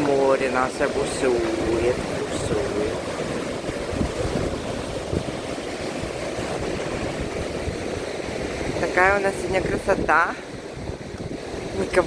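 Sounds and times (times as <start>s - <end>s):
sea waves breaking: 0.0s - 12.0s
wind buffeting microphone: 0.0s - 12.0s.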